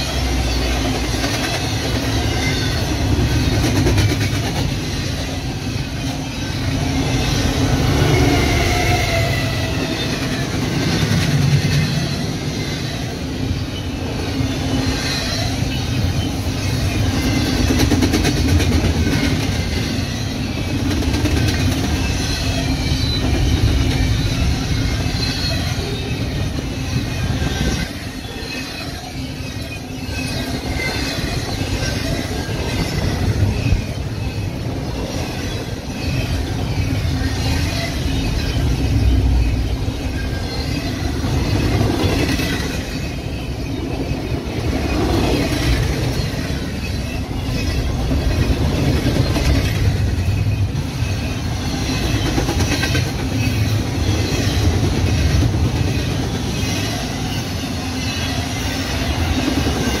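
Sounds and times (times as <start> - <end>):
freight train wheels on rail: 0.0 - 60.0.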